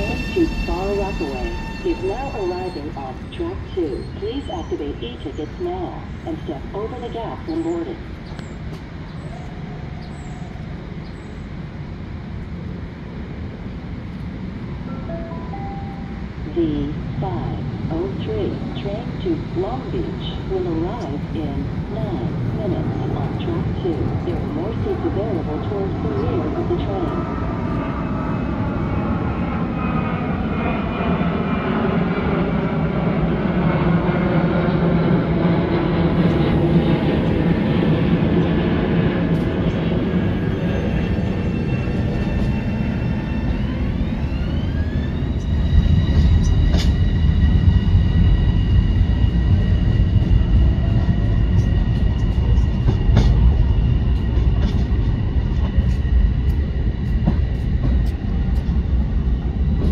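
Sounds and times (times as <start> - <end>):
electric train humming: 0.0 - 59.9.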